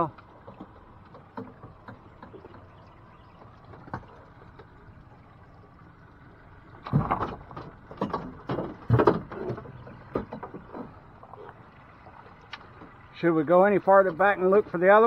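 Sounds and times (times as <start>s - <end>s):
knocks and clattering thumps on boat: 0.0s - 15.0s.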